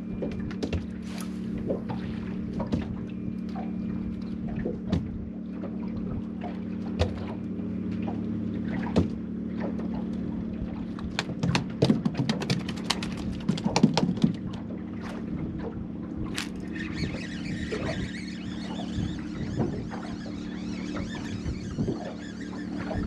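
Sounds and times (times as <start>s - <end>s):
low hum: 0.0s - 23.0s
waves slapping boat hull: 0.0s - 23.0s.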